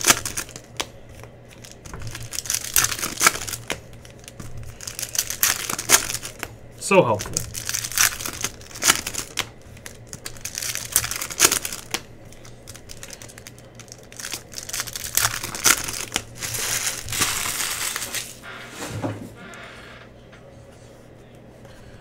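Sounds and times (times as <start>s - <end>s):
plastic wrappers crinkling: 0.0s - 18.5s.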